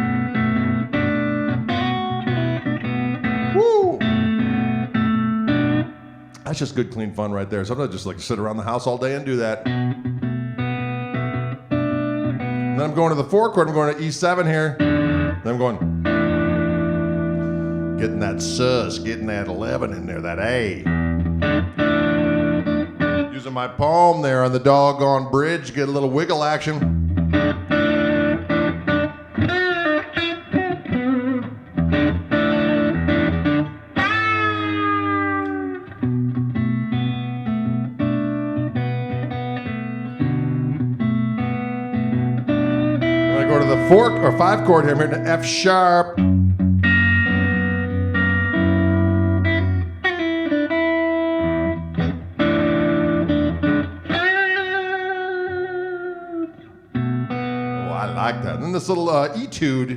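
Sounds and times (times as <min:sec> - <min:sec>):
guitar chord with vibrato dip: 0:00.0 - 0:06.4, 0:09.6 - 0:13.3, 0:14.7 - 0:23.4, 0:26.9 - 0:59.2
electric guitar bluesy shuffle: 0:00.0 - 0:59.9.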